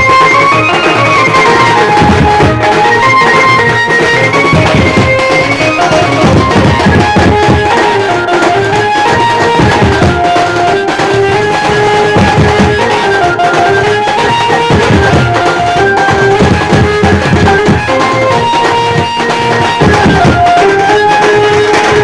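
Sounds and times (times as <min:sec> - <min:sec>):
electric banjo melody: 0:00.0 - 0:22.0
heavy steady drum beat: 0:00.0 - 0:22.0.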